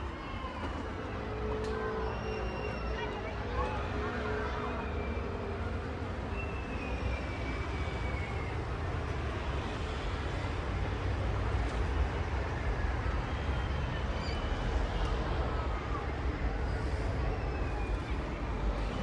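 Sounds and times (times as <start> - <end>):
low rumble of city ambience: 0.0 - 19.0.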